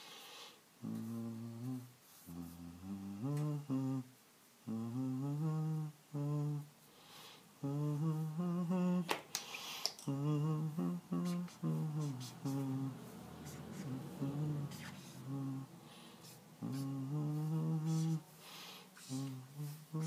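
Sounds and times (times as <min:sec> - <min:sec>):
man humming: 0:00.8 - 0:06.8, 0:07.6 - 0:09.1, 0:10.0 - 0:18.3, 0:19.0 - 0:20.0.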